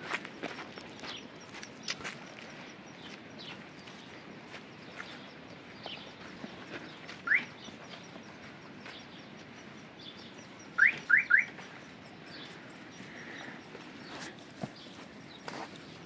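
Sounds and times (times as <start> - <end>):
bird chirping: 0.4 - 16.0.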